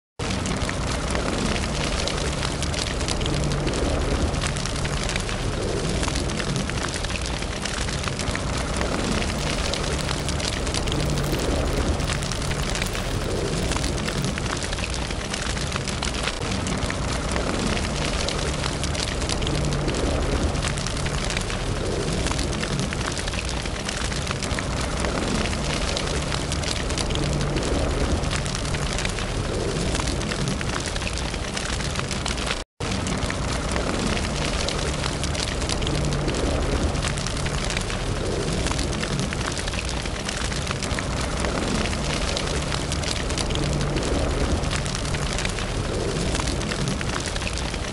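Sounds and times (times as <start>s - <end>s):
low rumble: 0.2s - 30.8s, 32.9s - 47.9s
wood fire crackling: 0.2s - 47.9s.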